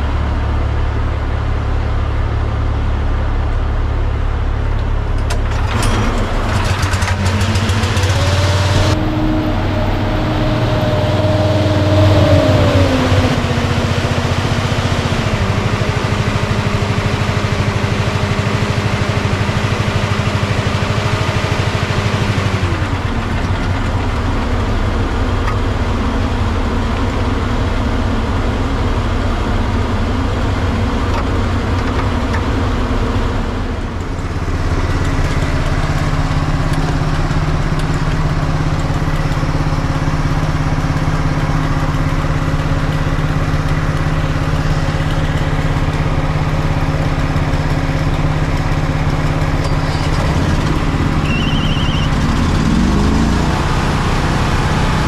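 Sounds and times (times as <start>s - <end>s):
fire truck diesel engine: 0.0s - 55.0s.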